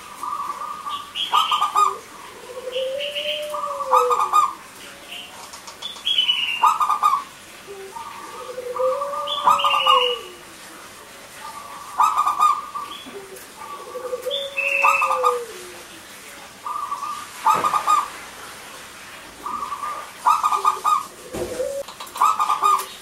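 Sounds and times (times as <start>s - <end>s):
dove cooing: 0.0s - 4.8s, 5.5s - 16.0s, 16.6s - 18.2s, 19.4s - 23.0s.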